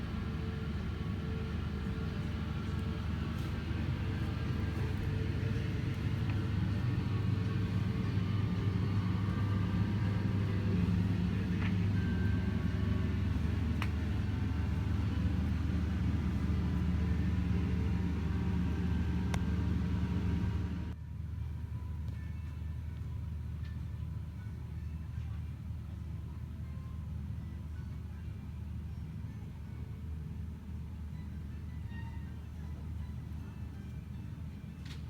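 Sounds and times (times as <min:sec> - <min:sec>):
constant hum: 0:00.0 - 0:35.0.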